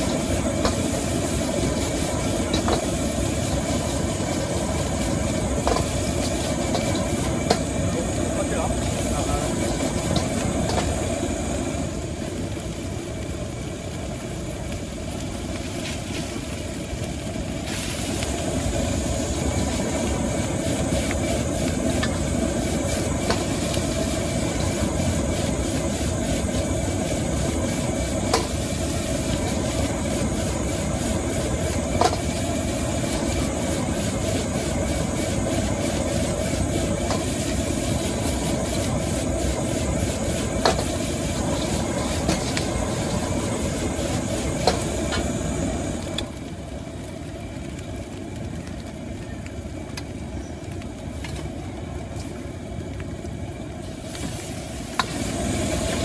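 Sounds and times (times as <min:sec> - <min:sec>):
food sizzling in a wok: 0:00.0 - 0:56.0
gas burner roaring: 0:00.0 - 0:56.0.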